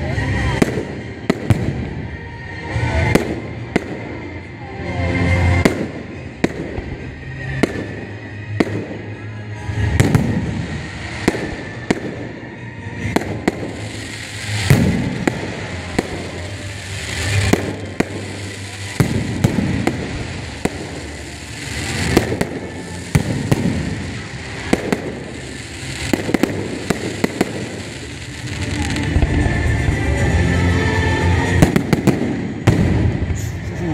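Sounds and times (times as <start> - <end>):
fireworks bangs and cracks: 0.0 - 33.9.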